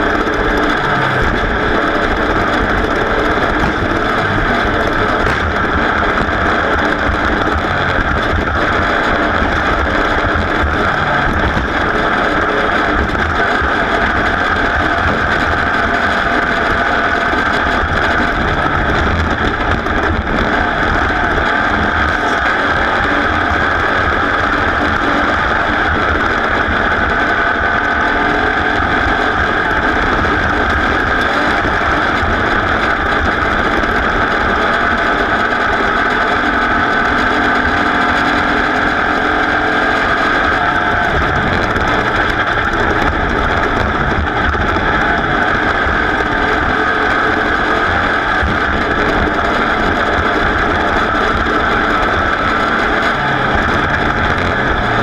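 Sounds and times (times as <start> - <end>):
race vehicle engine running hard: 0.0 - 55.0
terrain noise: 0.0 - 55.0
wind noise: 0.0 - 55.0.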